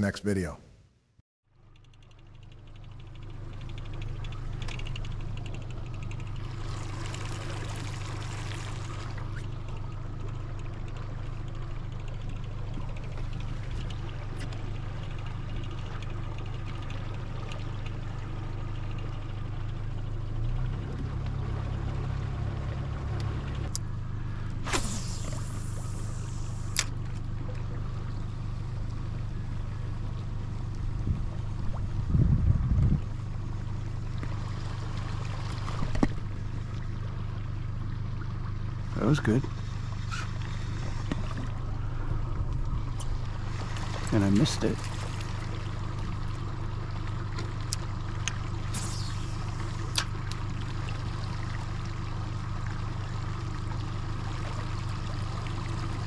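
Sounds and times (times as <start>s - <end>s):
boat motor humming: 1.5s - 56.0s
water splashing against hull: 2.3s - 56.0s.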